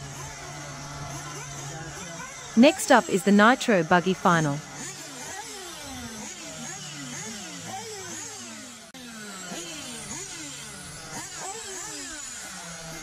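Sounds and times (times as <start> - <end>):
rc car engines revving: 0.0 - 2.6, 4.6 - 13.0.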